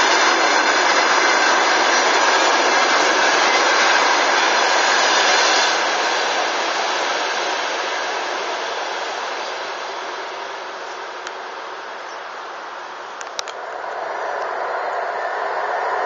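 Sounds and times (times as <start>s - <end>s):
train coaches rolling on rails: 0.0s - 16.0s.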